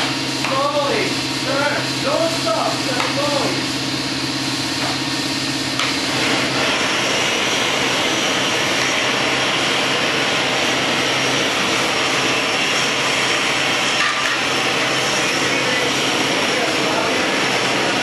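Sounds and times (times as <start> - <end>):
furnace burner roar: 0.0 - 18.0
gas torch flame roaring: 0.0 - 18.0.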